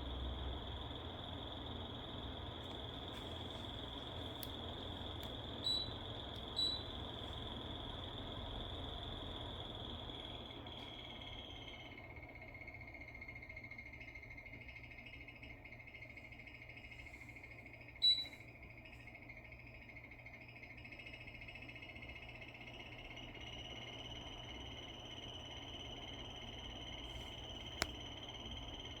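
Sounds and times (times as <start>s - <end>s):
air conditioner high-pitched whine: 0.0s - 29.0s.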